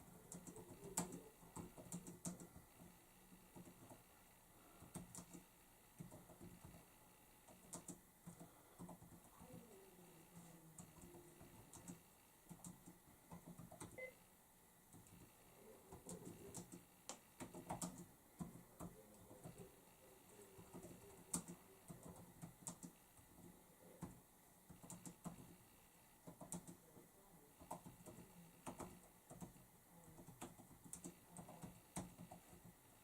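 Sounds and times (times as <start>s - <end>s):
faint keyboard typing: 0.0s - 14.3s, 14.9s - 33.0s.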